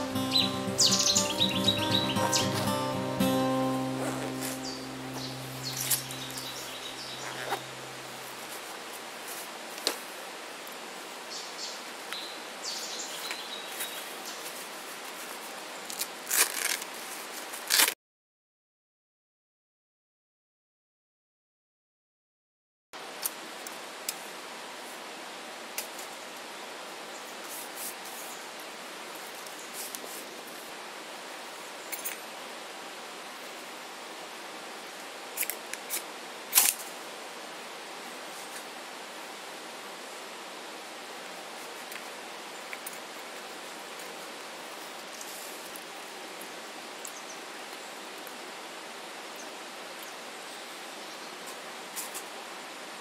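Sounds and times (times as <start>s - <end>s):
steady hiss: 0.0s - 17.8s, 23.0s - 53.0s.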